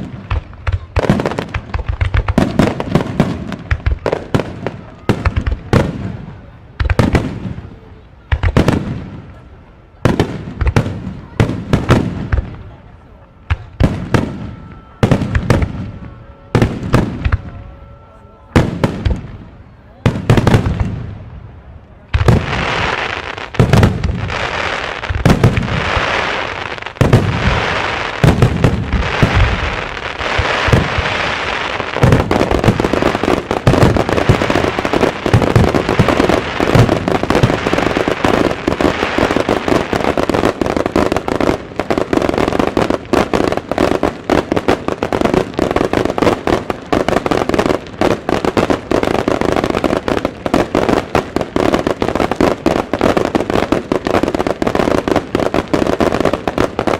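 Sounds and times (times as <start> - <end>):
fireworks bursting with loud bangs: 0.0 - 56.9
fireworks crackle: 0.0 - 56.9.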